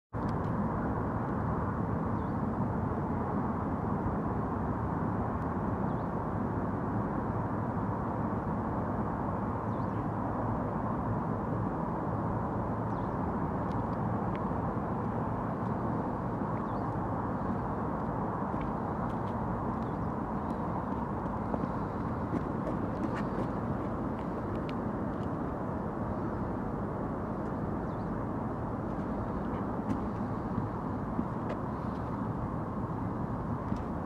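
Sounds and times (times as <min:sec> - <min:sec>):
distant traffic hum: 0:00.2 - 0:34.0.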